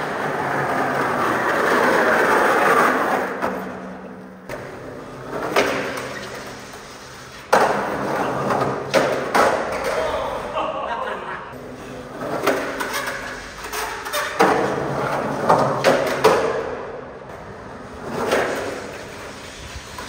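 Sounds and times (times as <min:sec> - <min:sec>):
skateboard grinding on concrete: 0:00.0 - 0:10.0, 0:11.6 - 0:16.8, 0:17.4 - 0:20.0
skateboard clacking: 0:00.0 - 0:10.2, 0:12.2 - 0:20.0.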